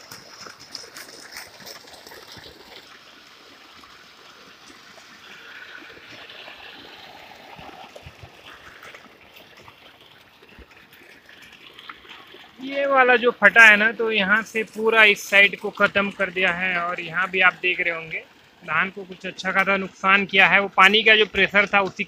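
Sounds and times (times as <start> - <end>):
water pouring from pipe: 0.0 - 22.0
water trickling down channel: 0.0 - 22.0.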